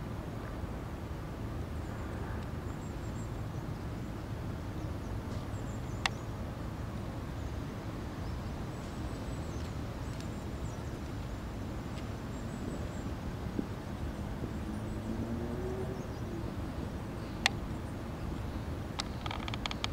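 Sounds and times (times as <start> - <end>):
wind noise on microphone: 0.0 - 19.9.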